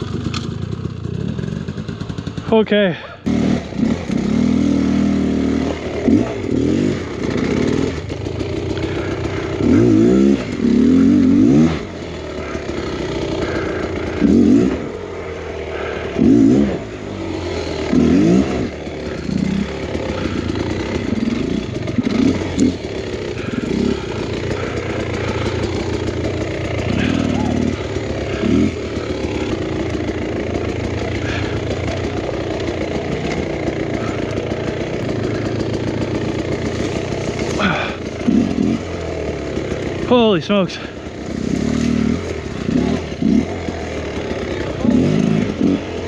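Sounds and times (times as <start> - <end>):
two-stroke motorcycle engine revving: 0.0 - 46.0.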